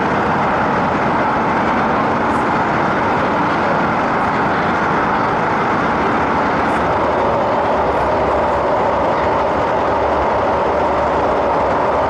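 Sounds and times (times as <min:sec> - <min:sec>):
train running noise inside carriage: 0:00.0 - 0:12.0.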